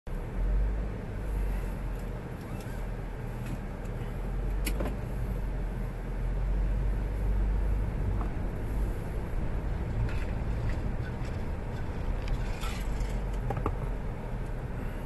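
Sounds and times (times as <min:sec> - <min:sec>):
car engine and road rumble: 0:00.1 - 0:15.0.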